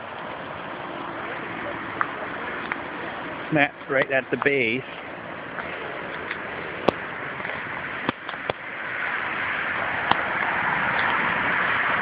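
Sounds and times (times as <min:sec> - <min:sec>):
car tyre noise approaching: 0:00.0 - 0:12.0.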